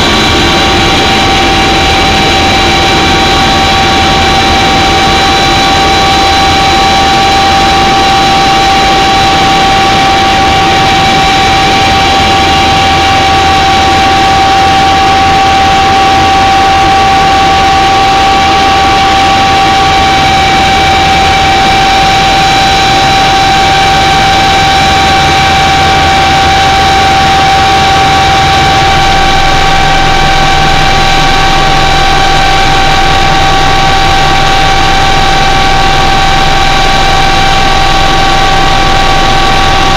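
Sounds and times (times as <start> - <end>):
aircraft engine drone: 0.0 - 39.9
high whine: 0.0 - 39.9.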